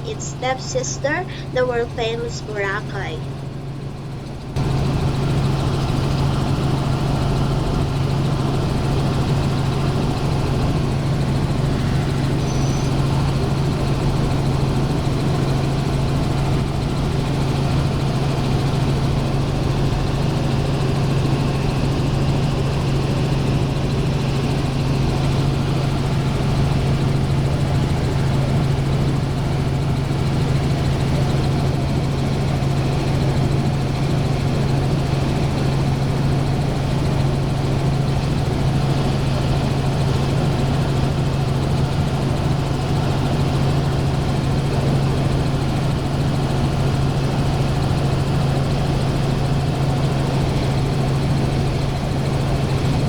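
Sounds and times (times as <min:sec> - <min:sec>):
helicopter engine and rotor drone: 0:00.0 - 0:53.0.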